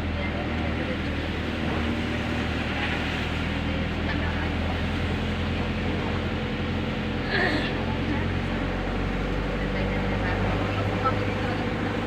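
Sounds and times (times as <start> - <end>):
car engine hum and road noise: 0.0 - 12.0.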